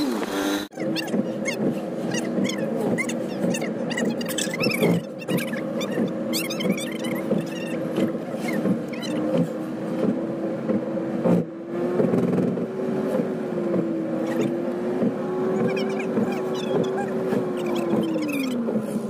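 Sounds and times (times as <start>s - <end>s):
car engine and road hum: 0.0s - 19.0s.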